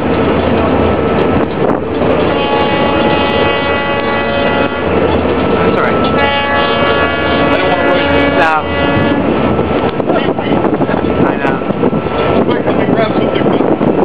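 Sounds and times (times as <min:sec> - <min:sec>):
ferry engine drone: 0:00.0 - 0:14.0
wind buffeting microphone: 0:00.0 - 0:14.0.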